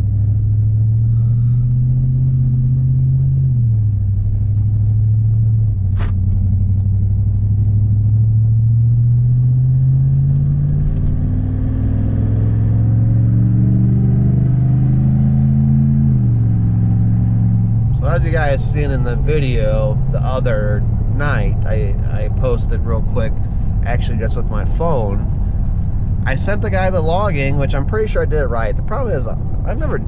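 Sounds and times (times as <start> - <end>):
truck engine accelerating: 0.0 - 30.0.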